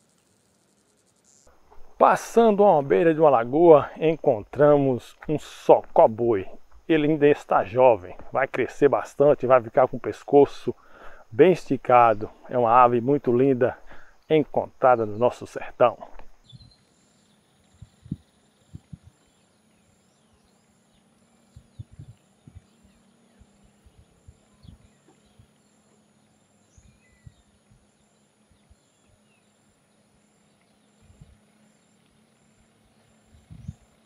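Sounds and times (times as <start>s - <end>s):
distant bird chirps: 0.0s - 34.0s.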